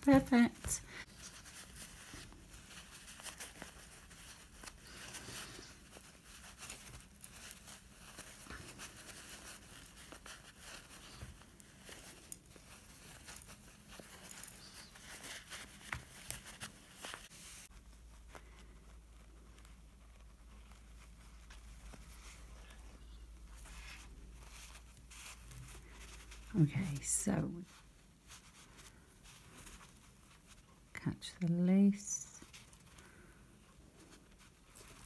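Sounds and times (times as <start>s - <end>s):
stuffing rustling and crackling: 0.0s - 35.0s.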